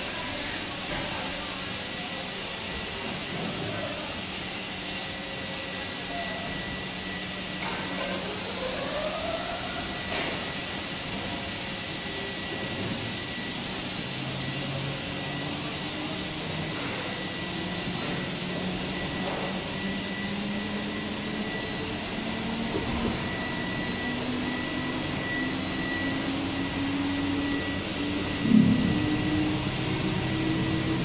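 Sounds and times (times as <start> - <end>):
machinery hiss and drone: 0.0 - 31.0
thin steady whine: 0.0 - 31.0.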